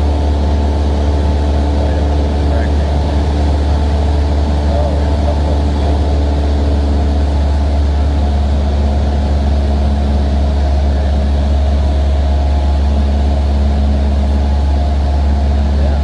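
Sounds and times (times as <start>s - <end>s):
aircraft engine drone in cabin: 0.0s - 16.0s.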